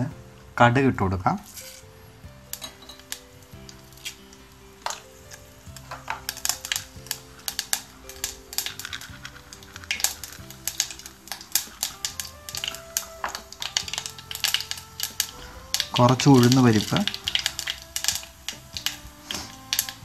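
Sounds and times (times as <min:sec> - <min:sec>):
frying sizzle: 0:00.0 - 0:20.0
soft background music: 0:00.0 - 0:20.0
mustard seeds popping in oil: 0:01.2 - 0:20.0.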